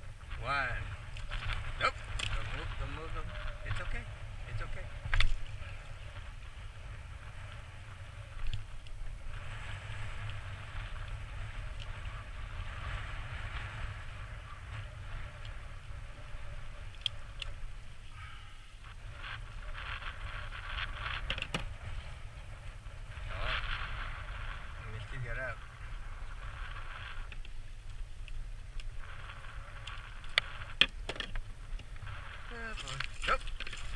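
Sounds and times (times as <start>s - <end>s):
wind rumble on microphone: 0.0s - 33.9s
gear clicks and scrapes: 0.3s - 18.0s, 18.8s - 33.9s.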